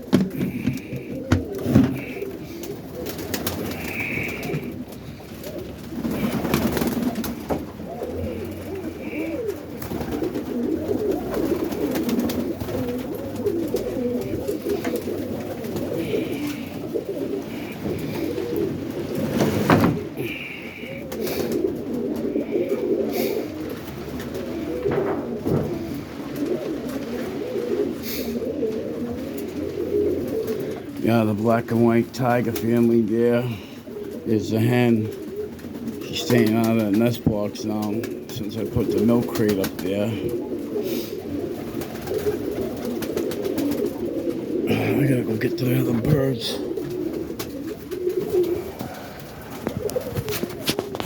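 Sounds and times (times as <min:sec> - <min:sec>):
pigeons cooing: 0:00.0 - 0:51.0.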